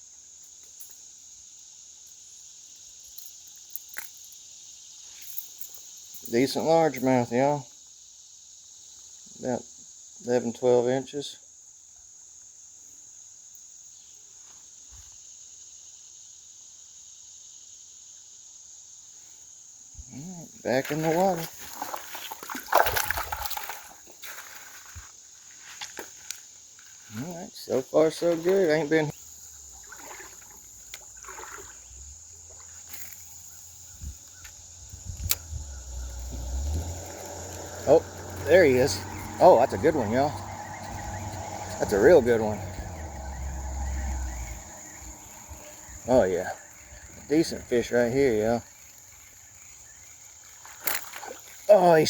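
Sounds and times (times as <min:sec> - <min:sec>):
insects chirping: 0:00.0 - 0:52.0.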